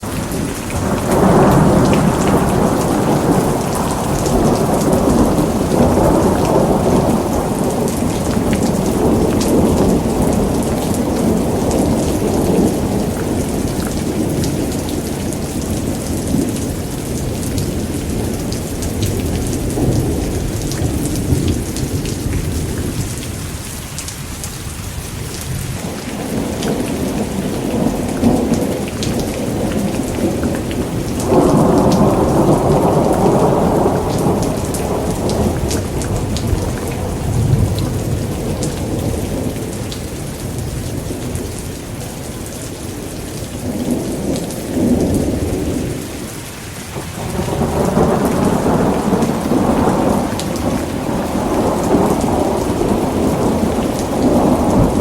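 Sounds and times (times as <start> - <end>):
low rolling thunder: 0.0 - 23.6, 24.8 - 55.0
steady rain: 0.0 - 55.0.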